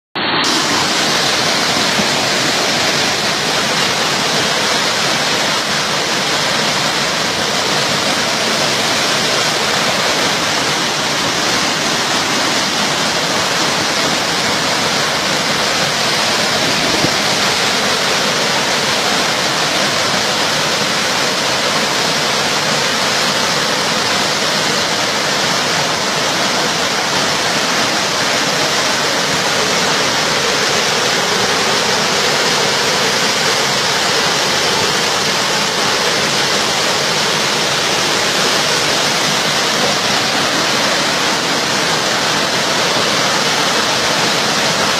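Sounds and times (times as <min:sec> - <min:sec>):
floodwater rushing: 0:00.2 - 0:44.9.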